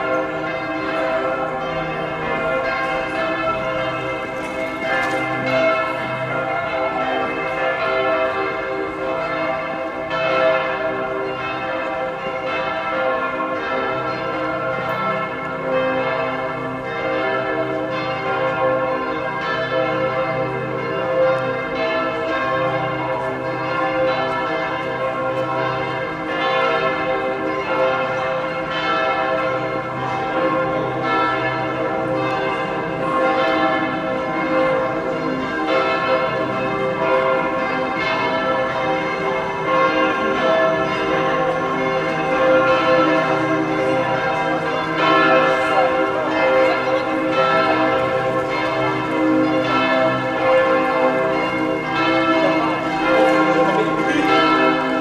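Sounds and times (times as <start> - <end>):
church bells pealing: 0.0 - 55.0.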